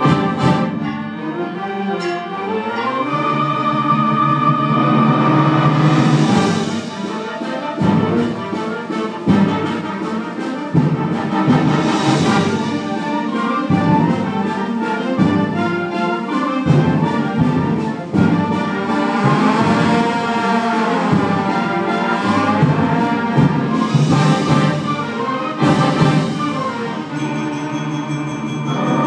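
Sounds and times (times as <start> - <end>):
concert band playing: 0.0 - 29.0
percussion strokes: 0.0 - 29.0.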